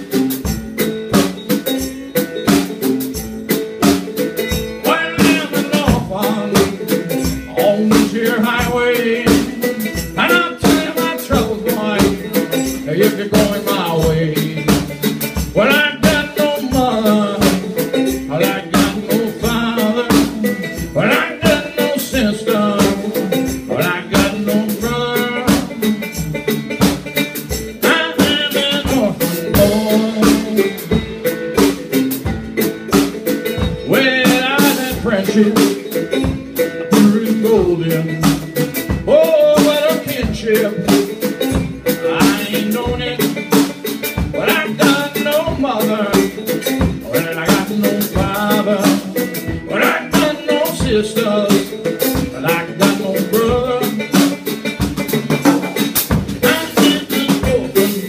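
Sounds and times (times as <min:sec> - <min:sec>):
cigar box guitar: 0:00.0 - 0:58.0
drum kit steady beat: 0:00.0 - 0:58.0.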